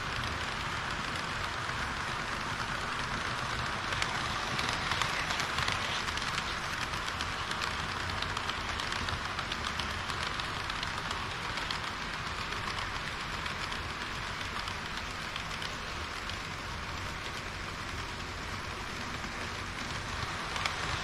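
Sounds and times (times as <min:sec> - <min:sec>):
model train wheels rattling: 0:00.0 - 0:21.0.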